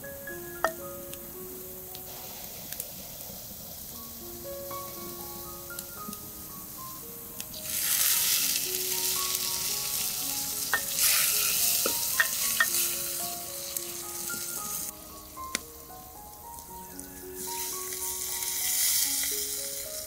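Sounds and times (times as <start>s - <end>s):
liquid sizzling in hot pot: 0.5s - 20.0s.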